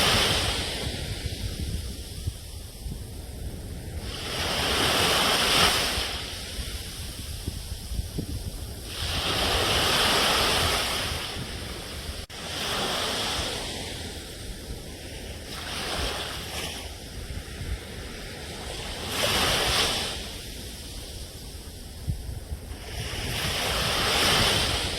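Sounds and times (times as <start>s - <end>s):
sea waves breaking on shore: 0.0s - 24.9s.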